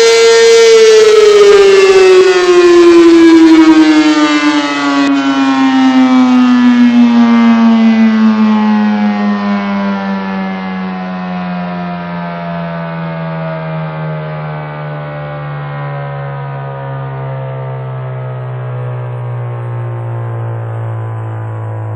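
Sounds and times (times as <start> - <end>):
siren winding down: 0.0 - 21.9.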